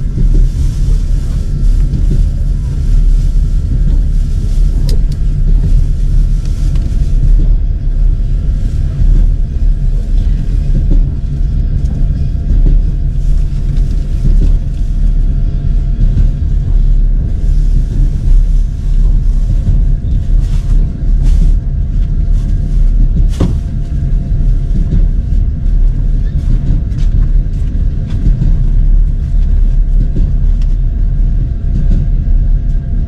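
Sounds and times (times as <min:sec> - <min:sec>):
vehicle rumbling: 0:00.0 - 0:33.0.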